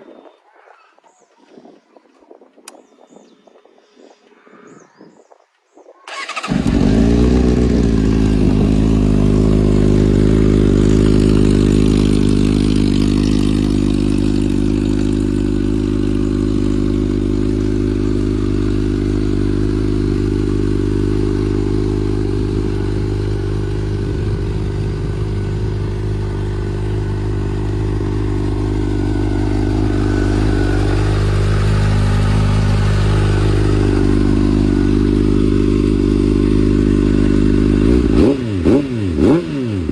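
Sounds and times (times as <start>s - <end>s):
motorcycle engine starting and idling: 6.1s - 39.9s.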